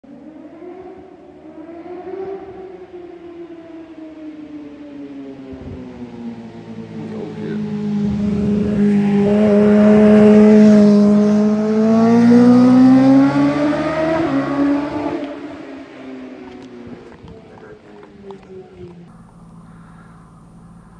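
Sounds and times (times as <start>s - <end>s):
motorcycle engine at high revs: 0.0s - 20.9s.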